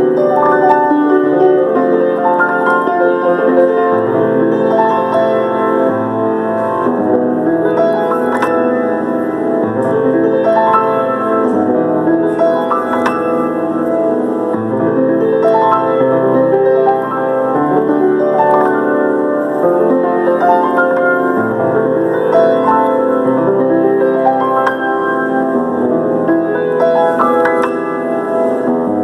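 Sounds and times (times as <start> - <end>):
solo piano chords: 0.0 - 29.0.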